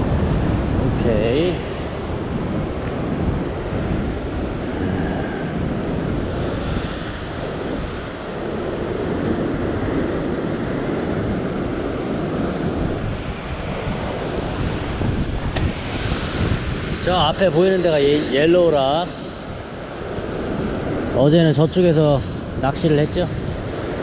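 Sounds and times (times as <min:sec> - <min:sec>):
ocean surf breaking on rocks: 0:00.0 - 0:24.0
wind buffeting microphone: 0:00.0 - 0:24.0.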